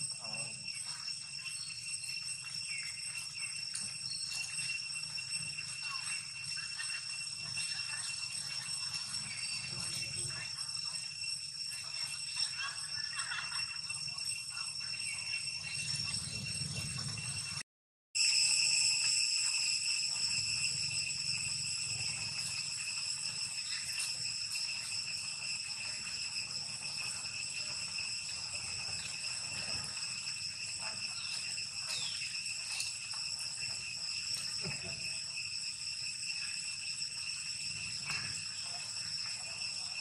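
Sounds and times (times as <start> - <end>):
insects droning: 0.0 - 17.6, 18.2 - 40.0.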